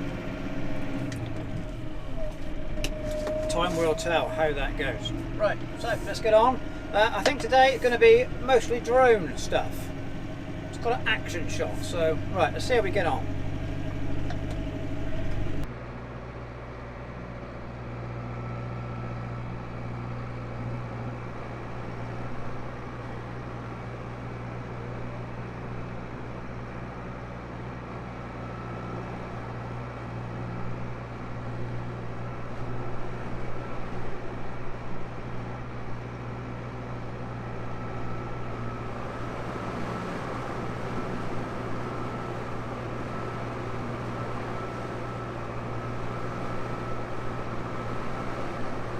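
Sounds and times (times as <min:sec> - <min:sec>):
tractor engine droning: 0:00.0 - 0:48.9.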